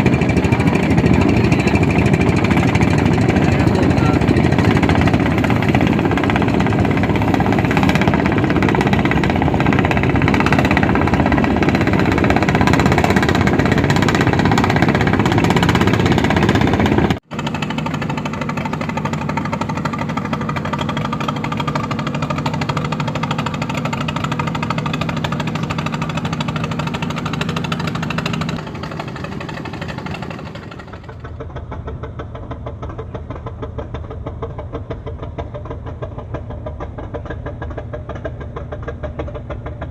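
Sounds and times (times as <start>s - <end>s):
boat engine low hum: 0.0s - 39.9s
fishing boat engines: 0.0s - 39.9s.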